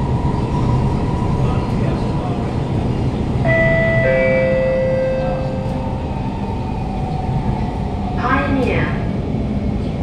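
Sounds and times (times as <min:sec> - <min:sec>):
wheels rumbling on rails: 0:00.0 - 0:10.0.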